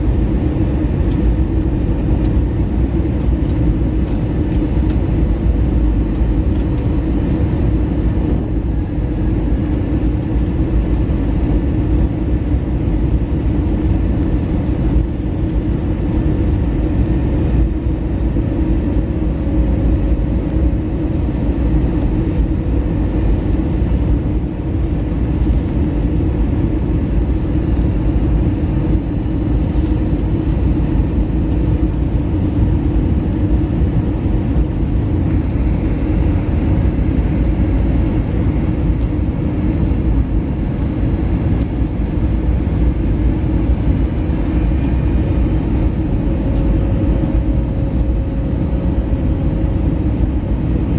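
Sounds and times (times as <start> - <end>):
airliner cabin engine roar: 0.0 - 50.9
faint steady hum: 0.0 - 50.9.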